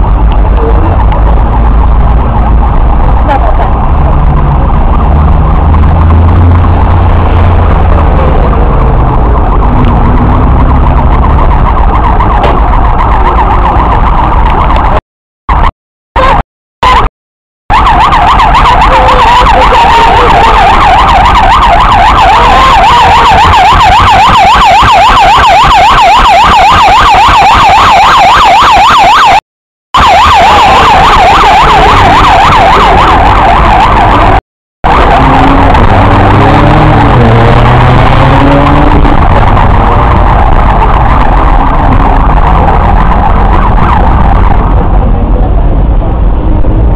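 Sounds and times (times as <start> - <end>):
emergency siren warbling: 0.0 - 17.1, 17.7 - 29.4, 30.0 - 46.9
traffic noise: 0.0 - 17.1, 17.7 - 29.4, 30.0 - 46.9.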